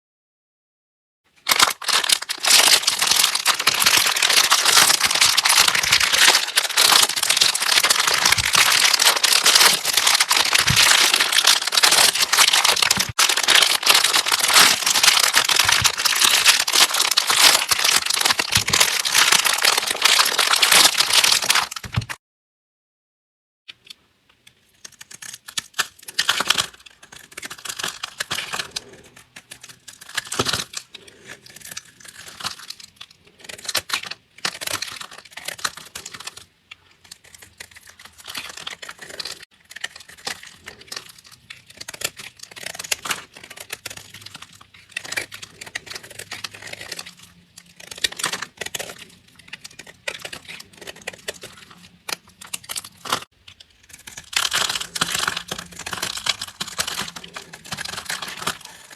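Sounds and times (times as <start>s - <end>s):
blade cutting crunchy soap: 1.5s - 22.0s, 24.8s - 58.9s.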